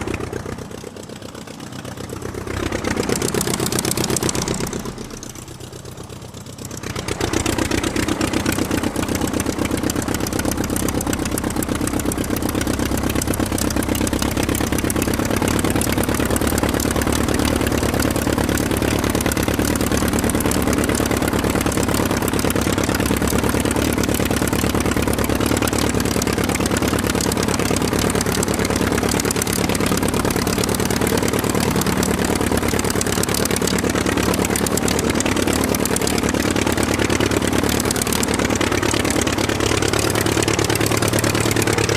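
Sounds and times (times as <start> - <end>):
aircraft engine running: 0.0 - 41.9.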